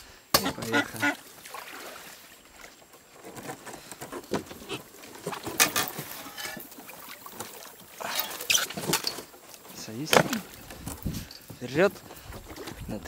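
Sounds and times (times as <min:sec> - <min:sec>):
reeds rustling against boat: 0:00.7 - 0:13.0.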